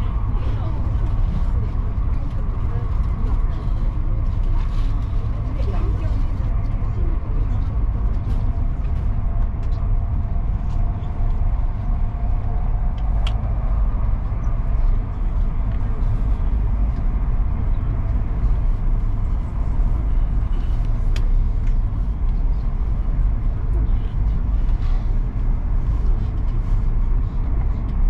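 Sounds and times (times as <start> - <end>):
train cabin low rumble: 0.0 - 28.0.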